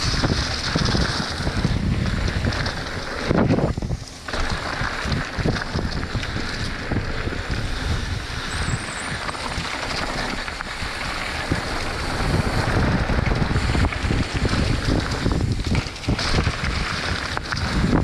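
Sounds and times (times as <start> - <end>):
bike rattling over bumps: 0.0 - 18.0
bike tyres rumbling on dirt: 0.0 - 18.0
wind buffeting microphone: 0.0 - 18.0.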